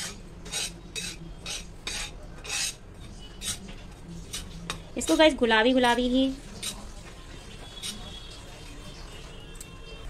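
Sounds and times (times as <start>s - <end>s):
metal spoon scraping a pan: 0.0s - 10.0s.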